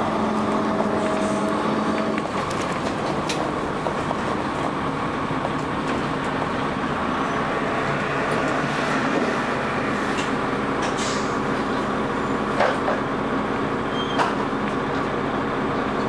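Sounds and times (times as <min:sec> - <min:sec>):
bus engine running: 0:00.0 - 0:16.0
road noise: 0:00.0 - 0:16.0.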